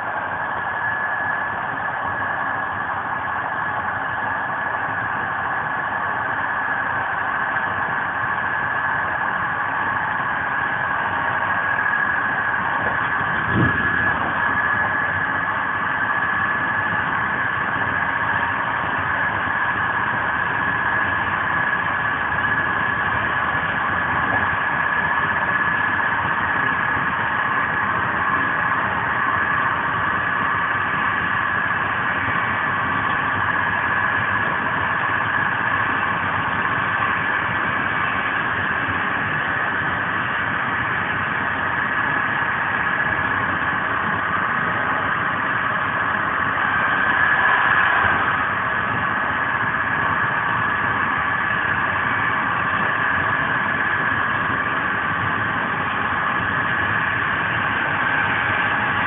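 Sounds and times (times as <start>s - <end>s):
high-pitched whine: 0.0s - 59.0s
train rolling on rails: 0.0s - 59.0s.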